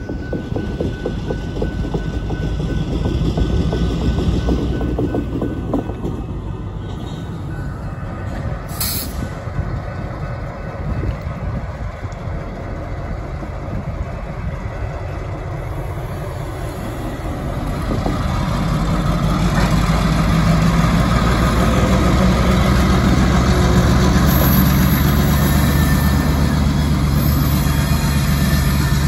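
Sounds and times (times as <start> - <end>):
locomotive engine droning: 0.0 - 29.0.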